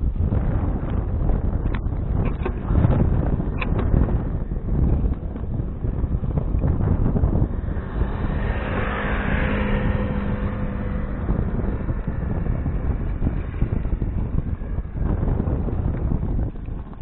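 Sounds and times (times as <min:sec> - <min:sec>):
wind buffeting microphone: 0:00.0 - 0:17.0
motor vehicle passing: 0:00.4 - 0:17.0.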